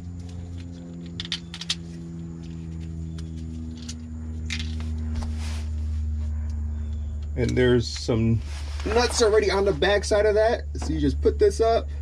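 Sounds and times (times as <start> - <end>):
low drone of held tones: 0.0 - 12.0.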